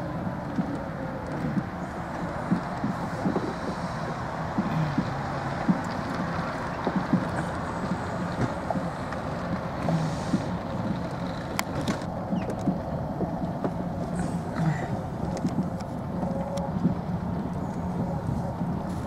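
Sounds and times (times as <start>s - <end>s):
golf cart driving on pavement: 0.0s - 19.0s.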